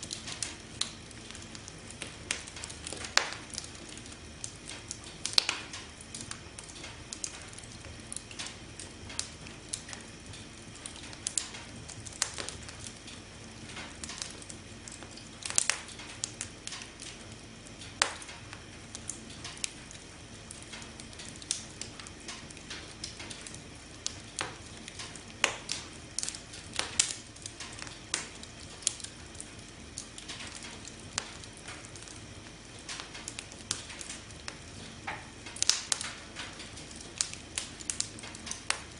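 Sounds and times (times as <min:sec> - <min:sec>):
campfire crackling and popping: 0:00.0 - 0:38.9
soft fire hiss: 0:00.0 - 0:38.9.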